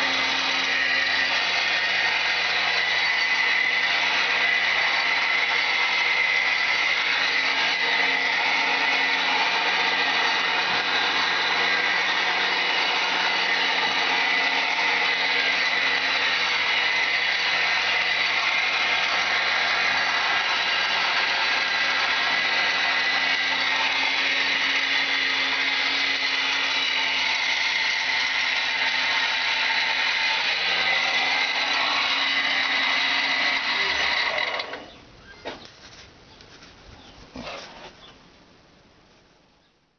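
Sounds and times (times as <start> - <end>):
metal lathe whining: 0.0 - 34.9.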